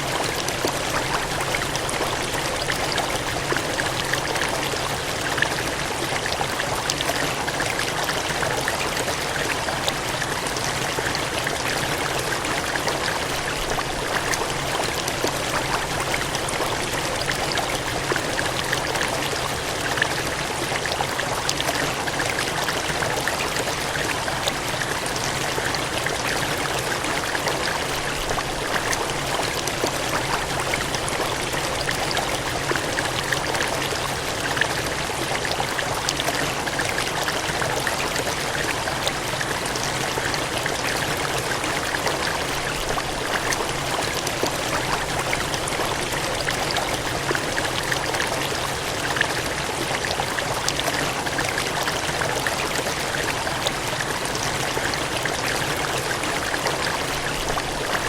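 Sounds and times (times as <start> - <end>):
water gushing and splashing: 0.0 - 58.0.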